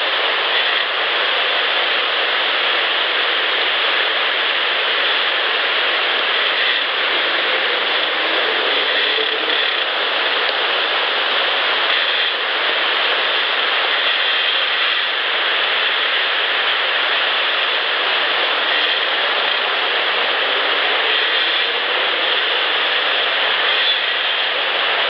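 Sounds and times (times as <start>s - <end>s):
loud steady hiss: 0.0s - 25.0s.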